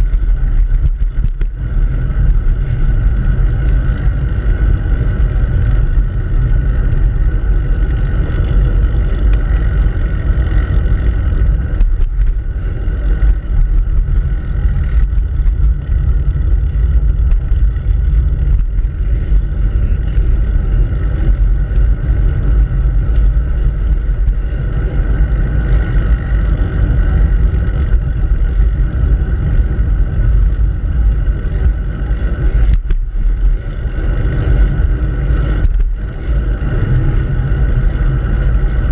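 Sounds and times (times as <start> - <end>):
wind rumbling on microphone: 0.0 - 38.9.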